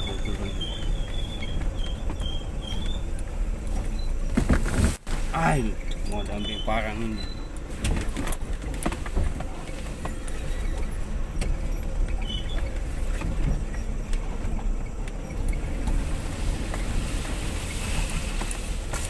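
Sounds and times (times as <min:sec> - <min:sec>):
rattles and knocks: 0:00.0 - 0:06.3, 0:07.2 - 0:19.0
vehicle engine and road rumble: 0:00.0 - 0:19.0.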